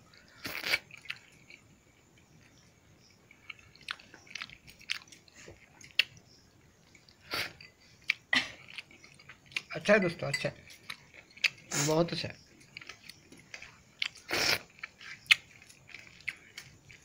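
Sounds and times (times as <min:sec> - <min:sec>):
person chewing food: 0:00.1 - 0:09.7, 0:10.6 - 0:11.7, 0:12.4 - 0:17.0.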